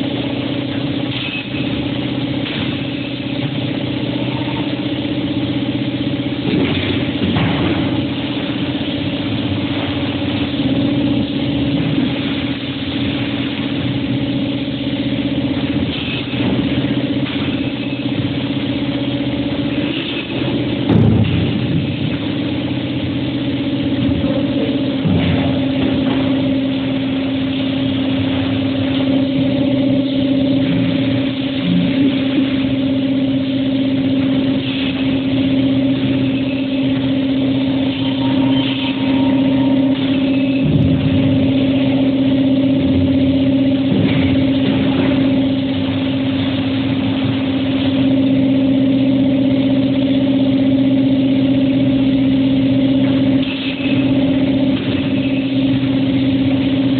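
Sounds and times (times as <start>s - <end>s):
machine motor hum: 0.0s - 56.9s.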